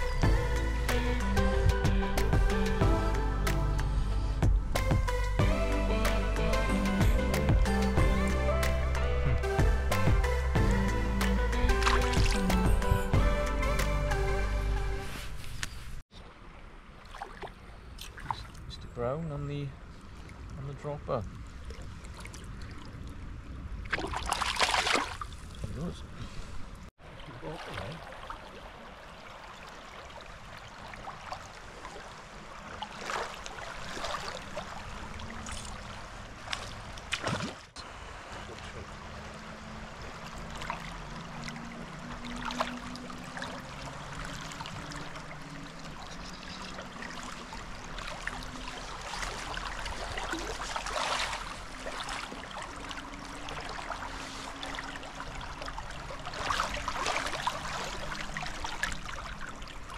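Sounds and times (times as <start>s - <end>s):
river water flowing and gurgling: 0.0s - 59.9s
water splashes: 4.8s - 14.2s, 16.0s - 26.1s, 26.8s - 59.9s.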